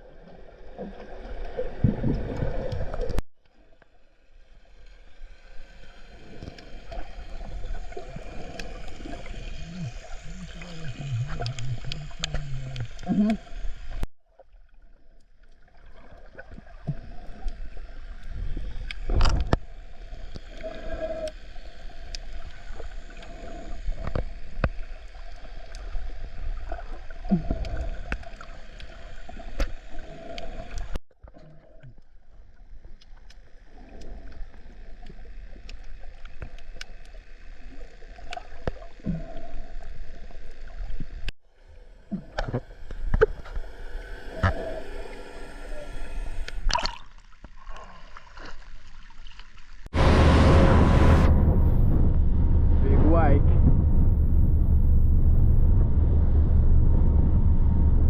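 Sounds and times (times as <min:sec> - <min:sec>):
water sloshing and gurgling: 0:00.0 - 0:50.0, 0:50.7 - 0:57.8.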